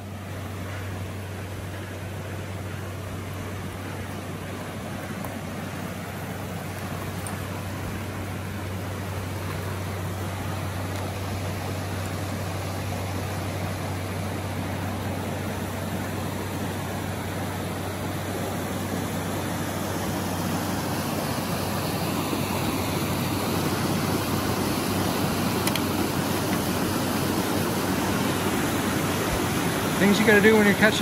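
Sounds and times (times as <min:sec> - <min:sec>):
river rapids rushing: 0:00.0 - 0:31.0.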